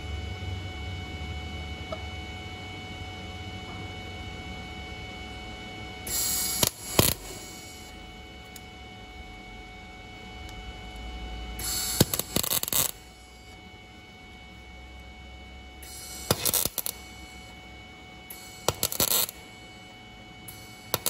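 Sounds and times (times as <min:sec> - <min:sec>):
steady electrical hum: 0:00.0 - 0:21.0
welder arc crackling and hissing: 0:00.0 - 0:21.0.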